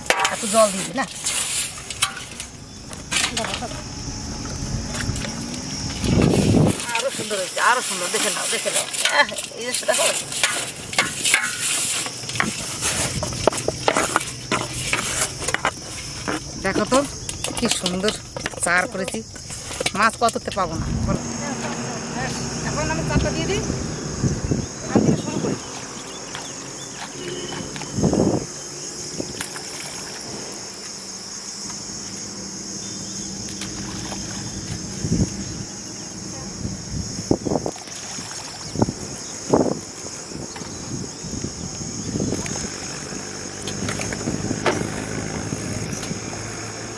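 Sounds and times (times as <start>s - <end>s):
insects buzzing: 0.0s - 46.9s.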